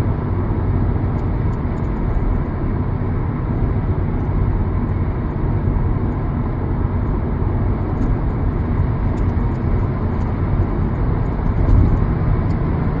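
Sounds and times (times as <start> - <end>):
car low rumble: 0.0 - 13.0.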